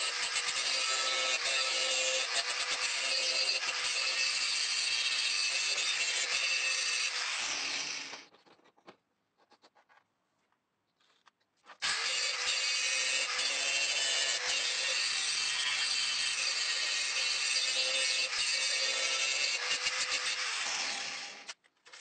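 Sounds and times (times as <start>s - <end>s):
angle grinder on steel: 0.0s - 8.3s, 11.8s - 21.6s.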